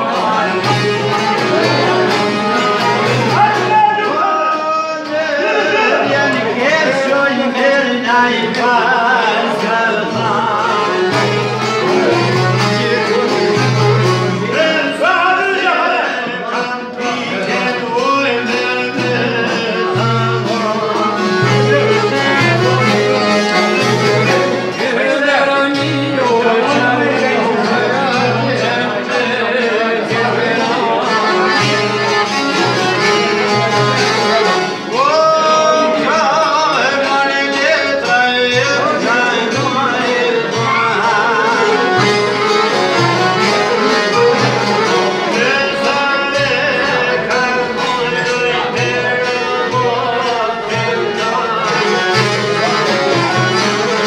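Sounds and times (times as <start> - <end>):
long-necked lutes: 0.0 - 4.5, 9.1 - 14.9, 17.0 - 37.8, 38.5 - 54.0
accordion: 0.0 - 54.0
person singing: 0.0 - 54.0
violin: 0.0 - 54.0.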